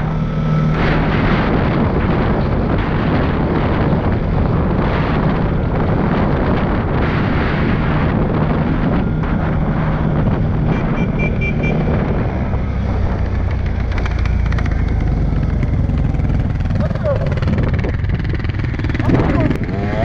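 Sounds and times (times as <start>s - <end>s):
atv engine running: 0.0s - 20.0s
wind buffeting microphone: 0.0s - 20.0s.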